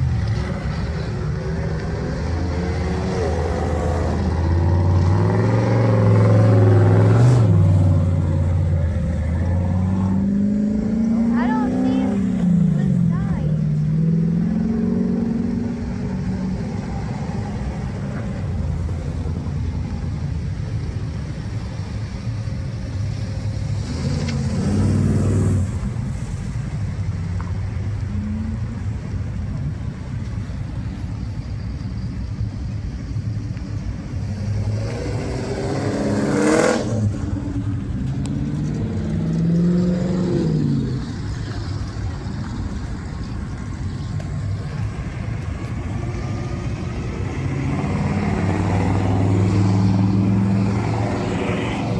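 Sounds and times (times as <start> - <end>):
car engines running: 0.0 - 51.9
cars driving past: 0.0 - 51.9.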